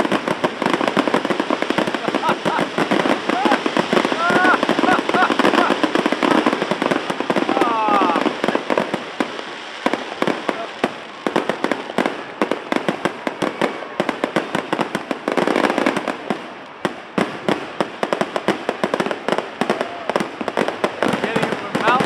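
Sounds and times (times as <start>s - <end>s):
firework crackling: 0.0s - 22.0s.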